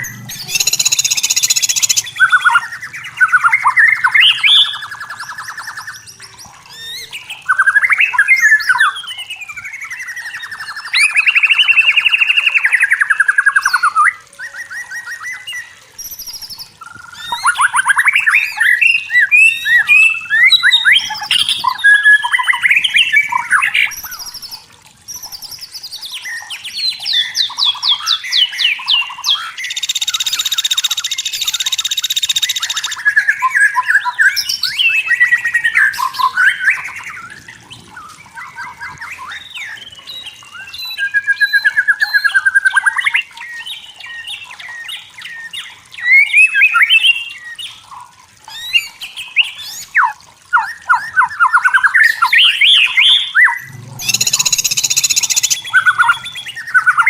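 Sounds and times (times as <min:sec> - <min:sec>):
songbird singing whistles and trills: 0:00.0 - 0:47.9, 0:48.5 - 0:57.0.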